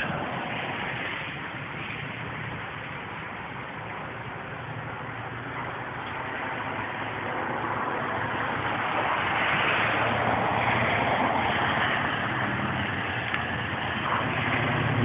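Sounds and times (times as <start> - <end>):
rainwater pouring and splashing: 0.0 - 15.0.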